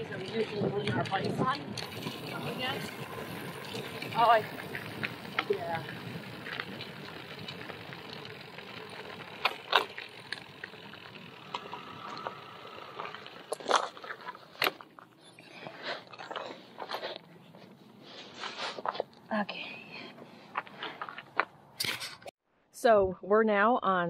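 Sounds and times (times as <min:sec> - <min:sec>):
bicycle tyres crunching gravel: 0:00.0 - 0:19.2, 0:19.9 - 0:21.6.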